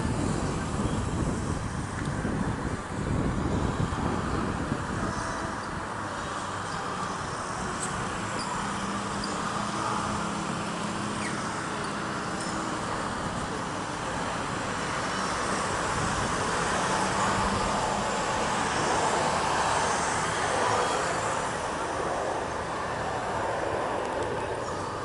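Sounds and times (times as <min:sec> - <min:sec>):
distant engine roar: 0:00.0 - 0:25.0.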